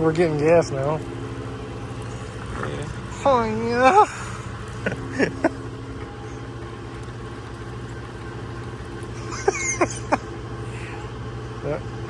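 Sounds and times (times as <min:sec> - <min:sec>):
motor idling hum: 0:00.0 - 0:12.0.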